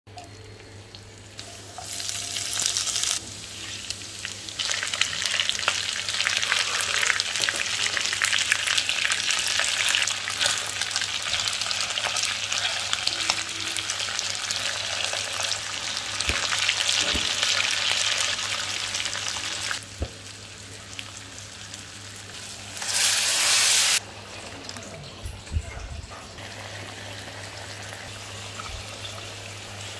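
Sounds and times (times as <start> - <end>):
oil sizzling in frying pan: 0.1 - 24.0, 26.4 - 29.9.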